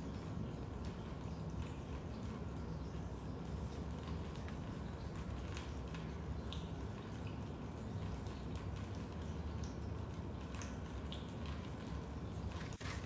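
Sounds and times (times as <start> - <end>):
raindrops dripping: 0.0 - 13.0.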